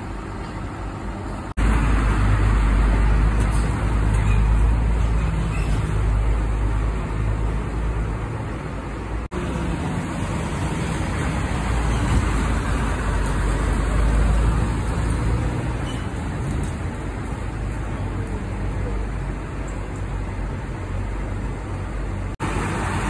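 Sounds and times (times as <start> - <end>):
diesel coach engines rumbling: 0.0 - 23.0.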